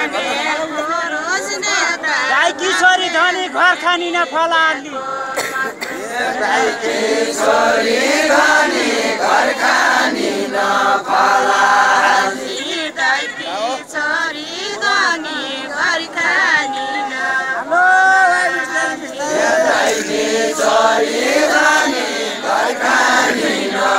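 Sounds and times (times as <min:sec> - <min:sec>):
group singing folk song: 0:00.0 - 0:23.9.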